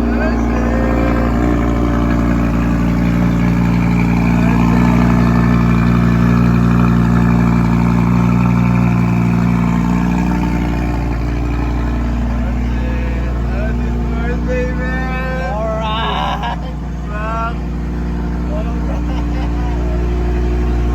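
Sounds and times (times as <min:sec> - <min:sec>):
car engine fast idle: 0:00.0 - 0:20.9.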